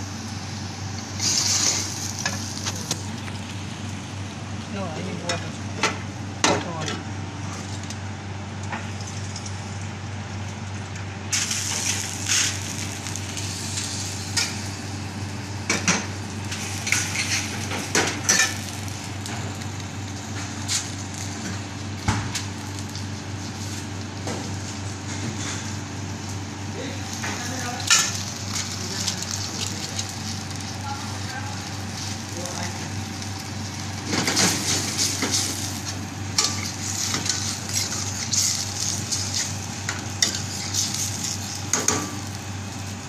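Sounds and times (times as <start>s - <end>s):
meat sizzling in a pan: 0.0s - 3.7s, 11.3s - 24.9s, 25.6s - 43.0s
steady low hum: 0.0s - 43.0s.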